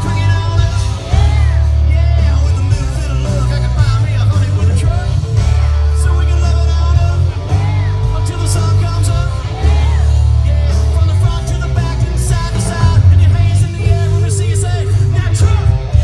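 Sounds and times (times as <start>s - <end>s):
drums: 0.0s - 16.0s
electric guitar: 0.0s - 16.0s
heavy bass: 0.0s - 16.0s
person singing: 0.0s - 16.0s.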